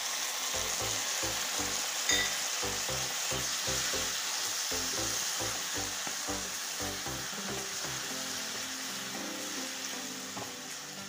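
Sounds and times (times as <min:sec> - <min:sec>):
masala sizzling in pan: 0:00.0 - 0:11.0.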